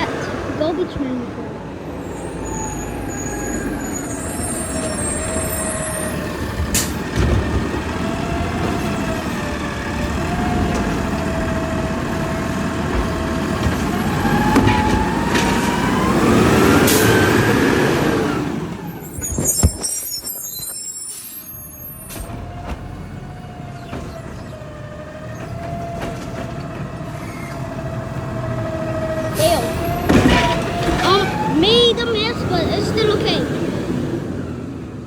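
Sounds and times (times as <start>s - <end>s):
garbage truck engine revving: 0.0s - 35.0s.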